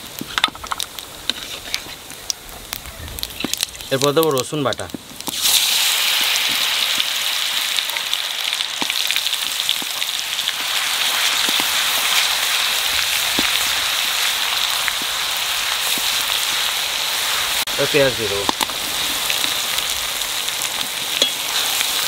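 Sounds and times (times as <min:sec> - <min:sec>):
garlic paste sizzling in oil: 0:00.0 - 0:22.0.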